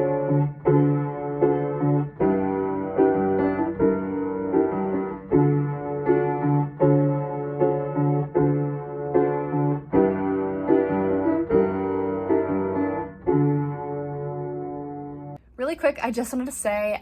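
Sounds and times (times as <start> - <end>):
solo piano playing chords: 0.0 - 15.4.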